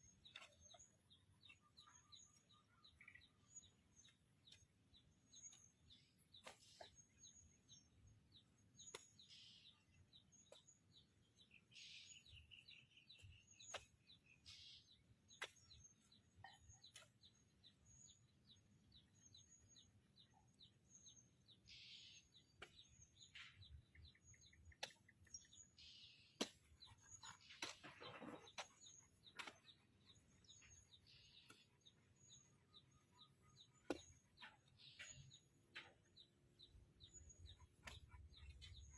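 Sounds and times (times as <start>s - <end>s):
faint birds chirping: 0.0s - 38.9s.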